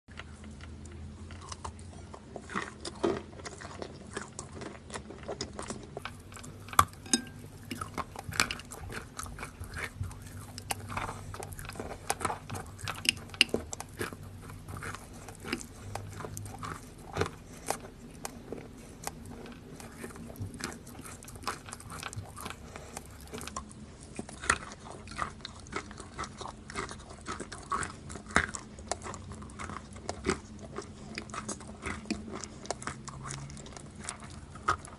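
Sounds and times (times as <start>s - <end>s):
person chewing chalk: 0.1s - 34.9s.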